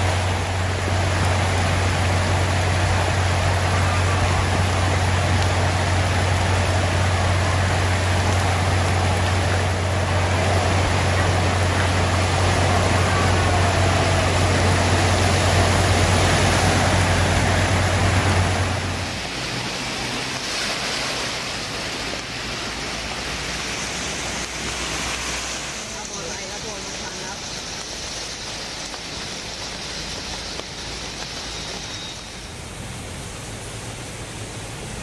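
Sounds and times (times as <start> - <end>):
heavy rain pouring: 0.0 - 35.0
vehicle engine low hum: 0.0 - 35.0.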